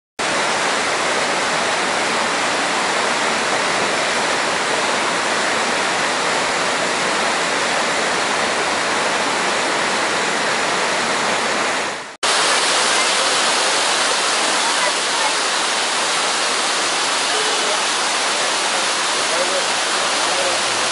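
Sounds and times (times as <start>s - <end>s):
waterfall rushing over rocks: 0.2s - 20.9s.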